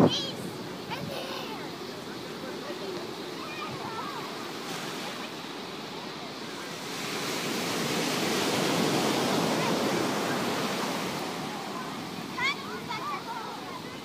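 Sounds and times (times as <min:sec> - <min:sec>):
waves breaking on beach: 0:00.0 - 0:14.0.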